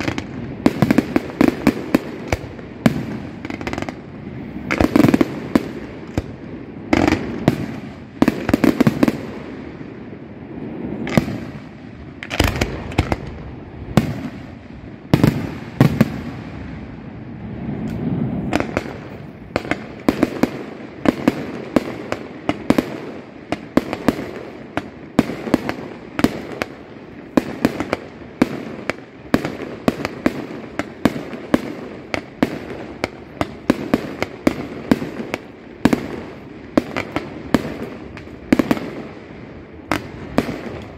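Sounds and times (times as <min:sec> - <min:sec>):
fireworks bursting: 0:00.0 - 0:40.9
fireworks crackling: 0:00.0 - 0:40.9.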